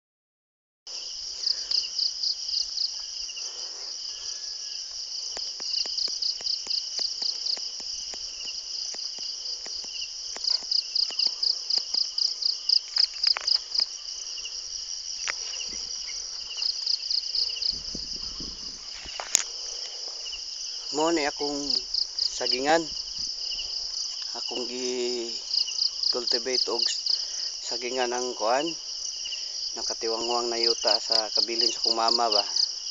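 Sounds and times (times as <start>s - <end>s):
insects chirping: 0.9s - 32.9s
pulsing insect trill: 0.9s - 32.9s.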